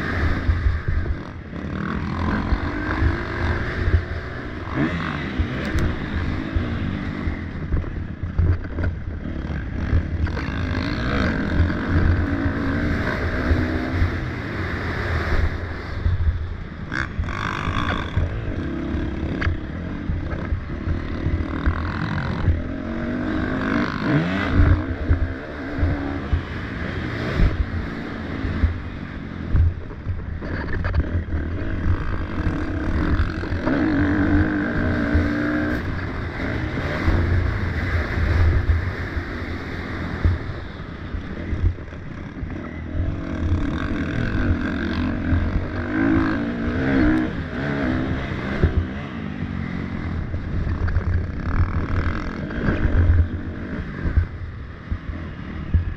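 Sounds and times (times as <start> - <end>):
dirt bike engines revving: 0.0 - 55.9.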